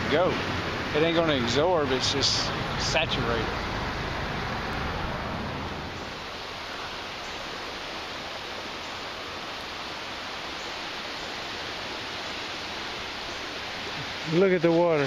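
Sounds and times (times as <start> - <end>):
flooded river rushing: 0.0 - 15.0.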